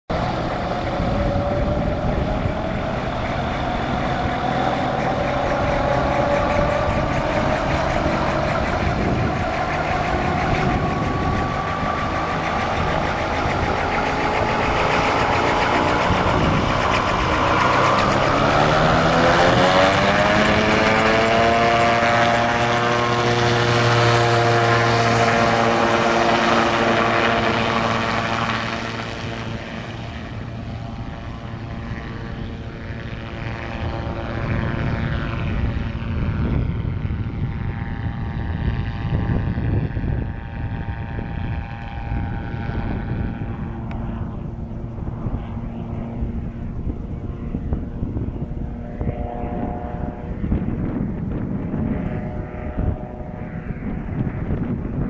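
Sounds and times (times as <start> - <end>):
gyrocopter engine and propeller: 0.1 - 55.0.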